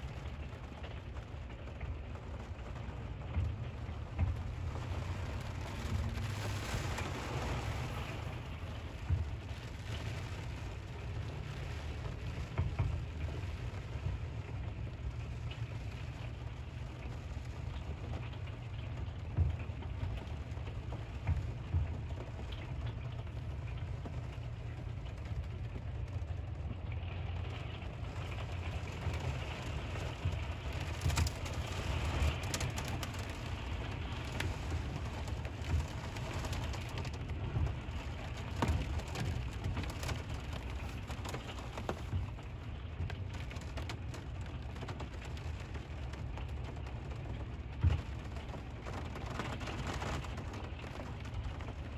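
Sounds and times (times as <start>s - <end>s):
constant low rumble: 0.0s - 51.9s
steady rain falling: 0.0s - 51.9s.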